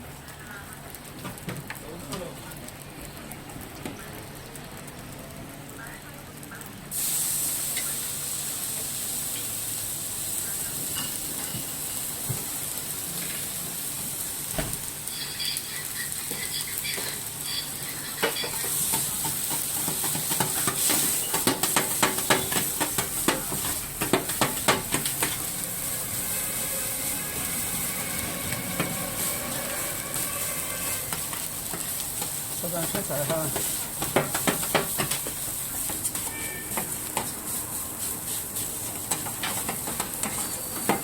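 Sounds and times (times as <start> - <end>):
rice sizzling on hot plate: 0.0 - 41.0.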